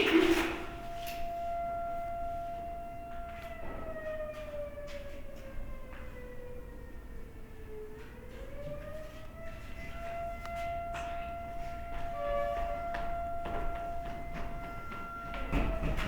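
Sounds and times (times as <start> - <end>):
civil defence siren wailing: 0.0 - 16.0.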